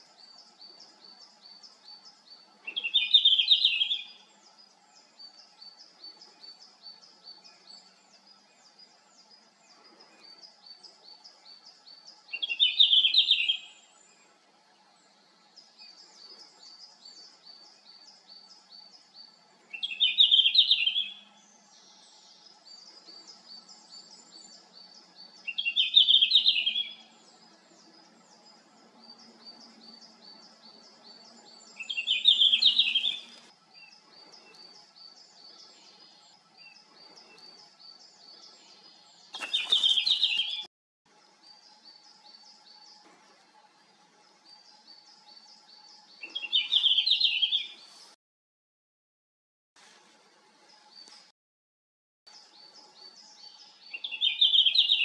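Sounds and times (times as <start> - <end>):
bird singing warbled phrases: 0.0 - 14.2, 14.8 - 40.7, 44.4 - 48.2, 52.3 - 55.0.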